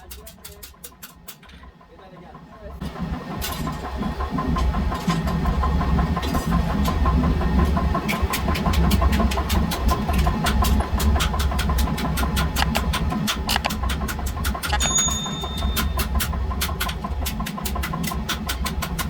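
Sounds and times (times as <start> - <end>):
motor running with deep rumble: 1.6 - 19.0.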